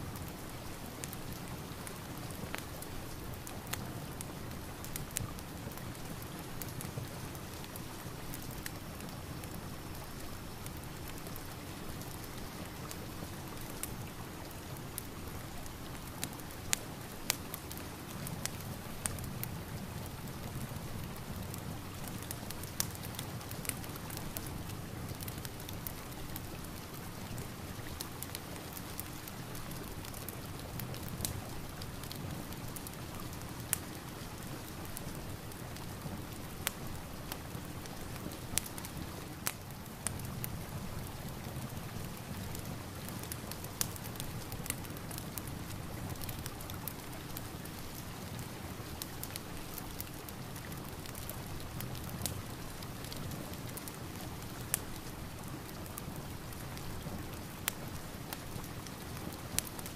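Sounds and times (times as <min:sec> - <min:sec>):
rain hiss: 0:00.0 - 0:59.9
fireplace crackling: 0:00.1 - 0:59.9.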